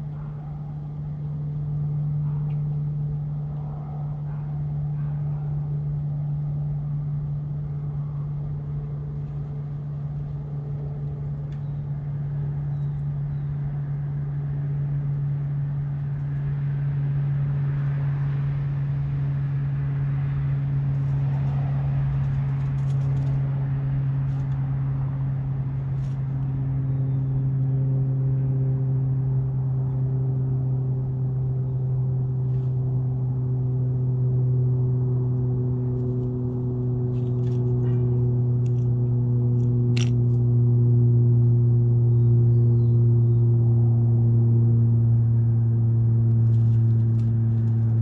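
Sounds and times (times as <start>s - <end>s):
low drone: 0.0s - 48.0s.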